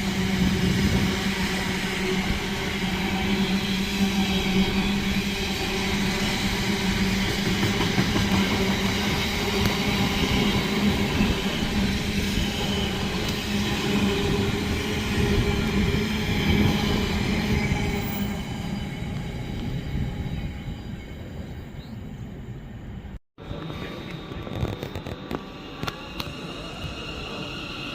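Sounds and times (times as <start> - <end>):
train humming and whining: 0.0 - 27.9.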